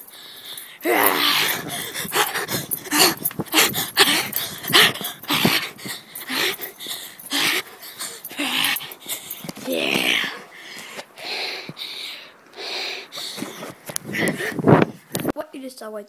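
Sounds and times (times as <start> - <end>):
heavy panting breaths: 0.0 - 15.3.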